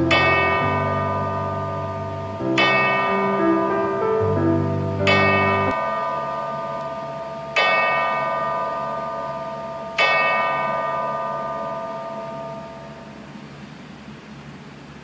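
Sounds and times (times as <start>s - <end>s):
large bell ringing: 0.0s - 13.2s.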